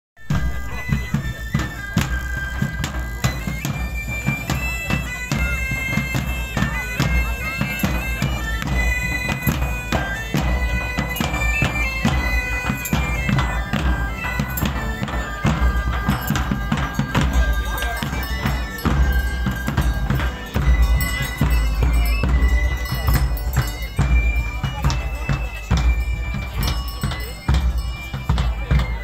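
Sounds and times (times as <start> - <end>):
bagpipe folk melody: 0.2 - 29.0
large drums beating: 0.2 - 29.0.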